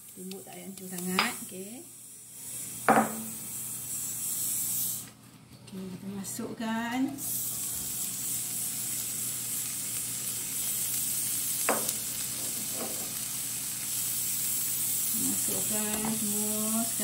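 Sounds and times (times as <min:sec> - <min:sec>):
spice paste sizzling in hot oil: 0:00.0 - 0:05.0, 0:07.2 - 0:17.0.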